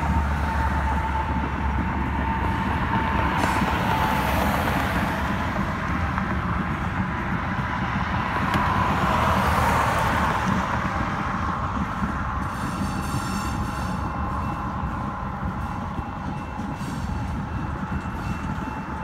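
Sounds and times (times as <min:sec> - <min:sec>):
train wheels rolling on rails: 0:00.0 - 0:19.0.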